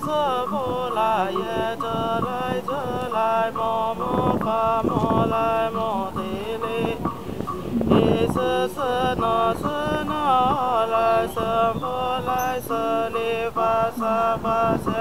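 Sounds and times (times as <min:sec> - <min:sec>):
woman chanting: 0:00.0 - 0:15.0.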